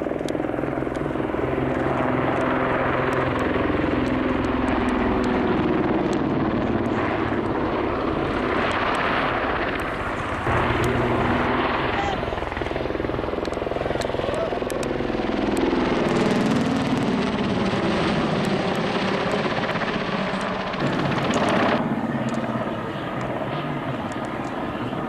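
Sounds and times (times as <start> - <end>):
helicopter rotor beating: 0.0 - 25.0
helicopter turbines: 0.0 - 25.0.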